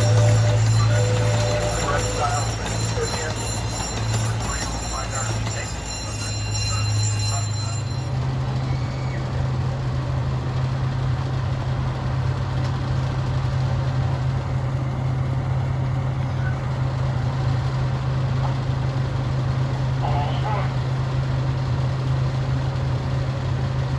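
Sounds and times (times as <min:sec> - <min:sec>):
miniature train engine droning: 0:00.0 - 0:23.9.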